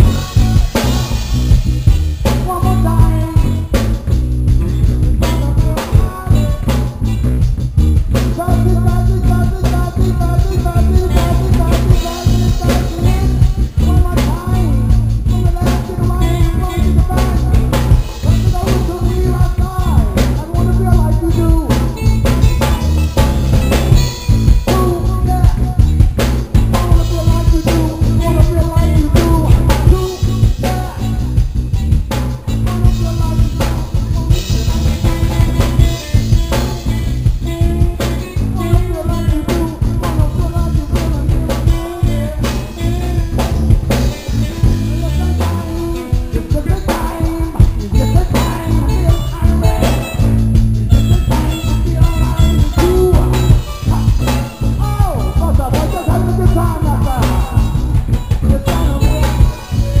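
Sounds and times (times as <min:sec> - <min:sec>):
live reggae band: 0:00.0 - 1:00.0.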